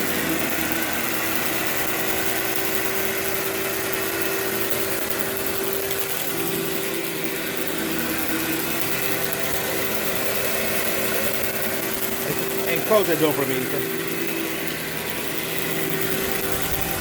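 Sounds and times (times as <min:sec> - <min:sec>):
vacuum cleaner running over carpet: 0:00.0 - 0:17.0.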